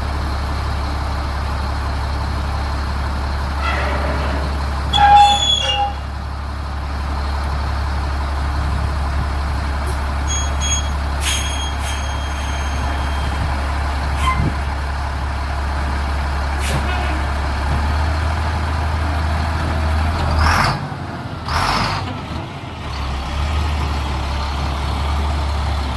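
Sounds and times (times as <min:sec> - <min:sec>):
diesel truck engine running: 0:00.0 - 0:25.9.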